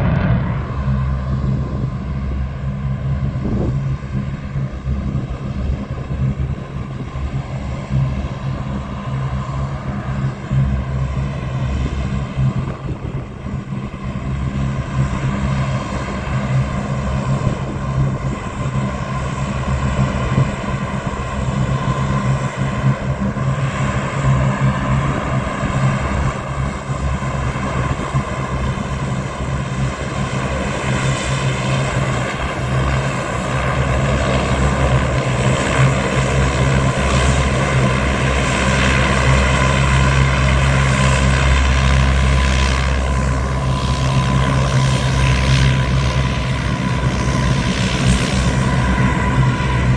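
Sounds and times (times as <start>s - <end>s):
aircraft engines humming: 0.0s - 49.9s.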